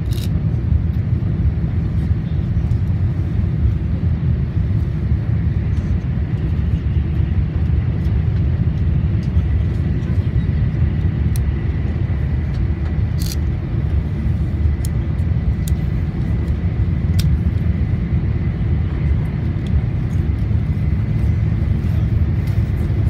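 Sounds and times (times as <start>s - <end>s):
train rumbling at speed: 0.0s - 23.0s.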